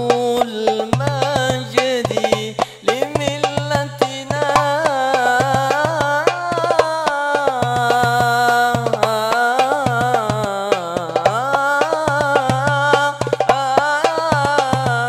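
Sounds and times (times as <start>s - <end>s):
hand drum rhythm: 0.0s - 15.0s
man singing into a microphone: 0.0s - 15.0s.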